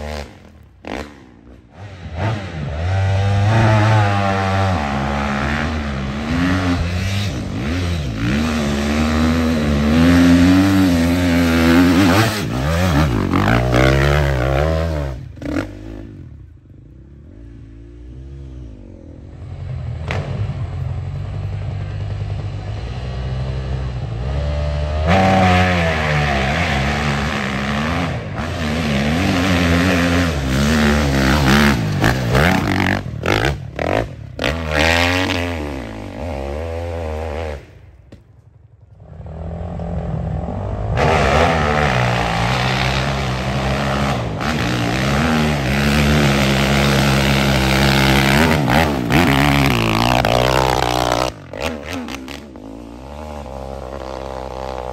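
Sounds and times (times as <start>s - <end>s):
dirt bike engines revving: 0.0s - 38.1s, 38.9s - 54.9s.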